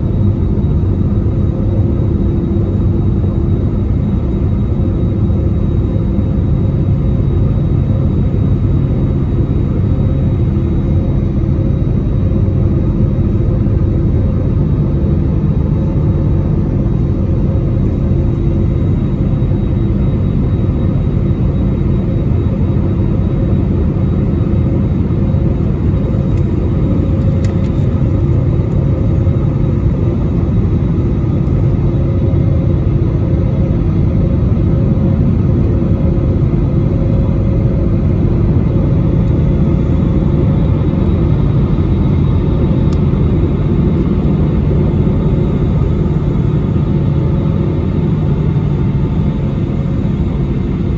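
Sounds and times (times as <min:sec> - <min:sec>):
jet engines and airflow rumble: 0:00.0 - 0:50.9.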